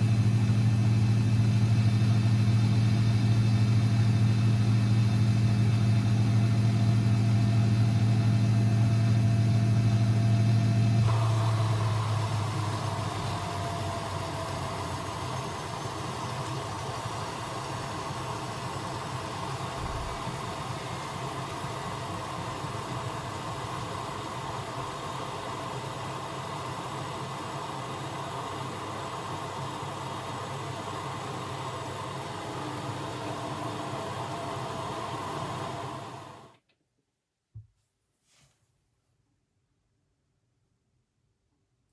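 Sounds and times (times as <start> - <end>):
washing machine humming: 0.0 - 36.5.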